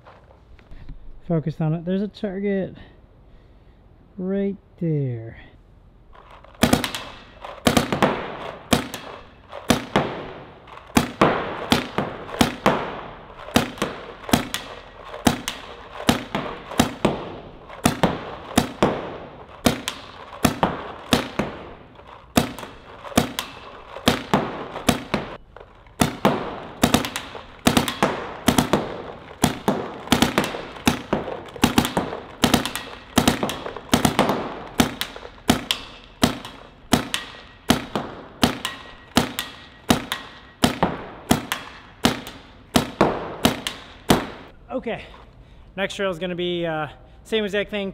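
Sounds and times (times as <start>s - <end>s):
paintball marker shots: 6.2s - 44.5s.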